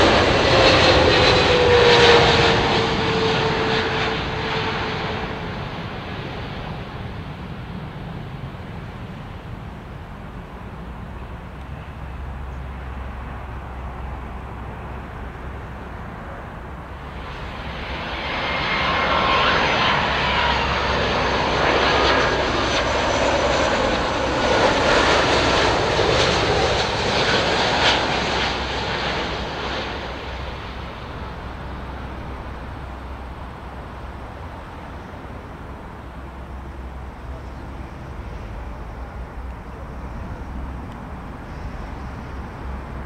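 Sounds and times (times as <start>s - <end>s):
jet aircraft passing: 0.0s - 43.0s.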